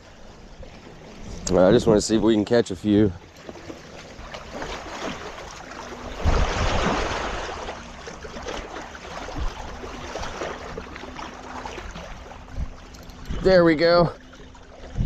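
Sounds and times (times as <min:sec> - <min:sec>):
lake water washing against bank: 0:00.0 - 0:15.0.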